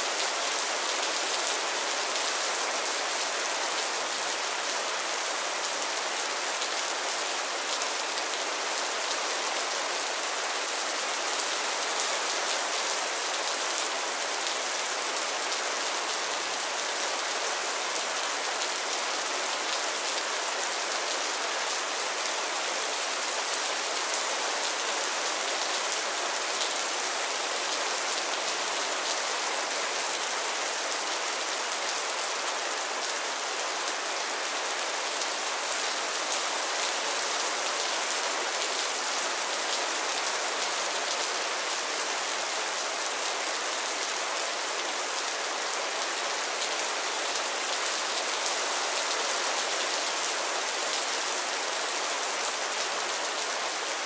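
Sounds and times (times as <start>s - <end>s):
light rain on a roof: 0.0s - 54.0s.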